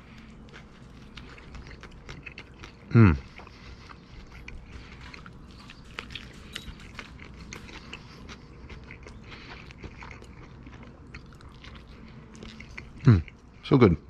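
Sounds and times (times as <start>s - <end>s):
person chewing food: 0.0s - 13.7s.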